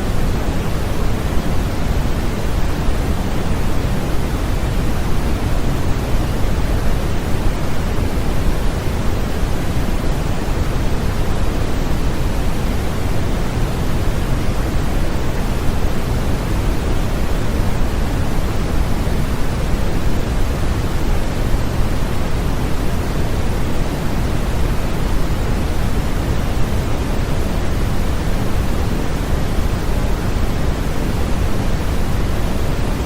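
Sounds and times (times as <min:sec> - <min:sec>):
white noise hiss: 0:00.0 - 0:33.0.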